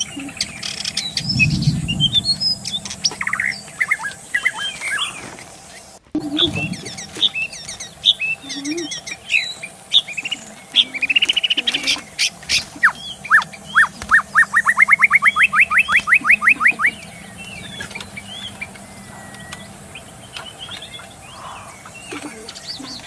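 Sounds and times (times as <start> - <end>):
thin steady whistle: 0.0 - 20.8
bird singing whistled notes: 0.0 - 23.0
faint bird chirps: 0.0 - 23.0.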